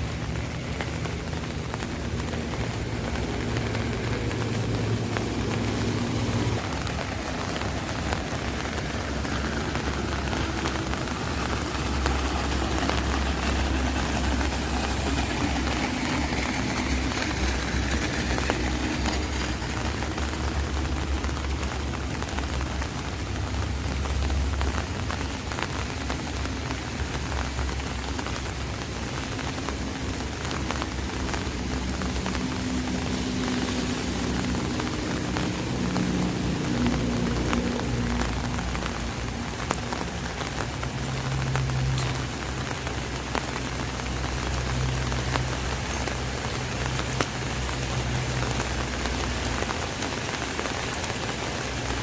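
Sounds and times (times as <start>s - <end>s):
low rumble: 0.0s - 45.9s
rain on an umbrella: 0.0s - 52.0s.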